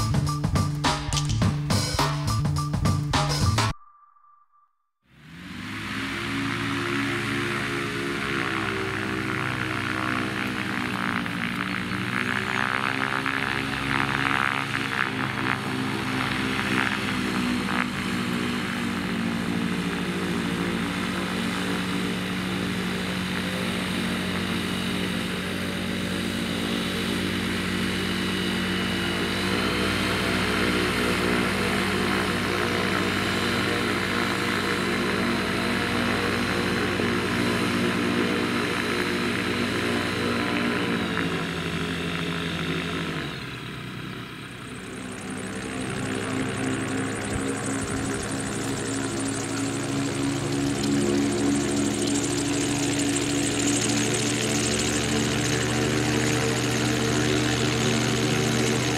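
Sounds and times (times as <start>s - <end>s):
gyroplane engine and propeller: 5.2s - 58.9s.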